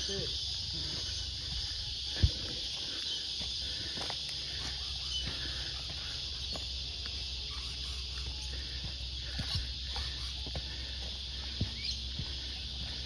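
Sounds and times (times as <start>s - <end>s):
footsteps crunching on dry leaves: 0.0s - 13.0s
insect chorus: 0.0s - 13.0s.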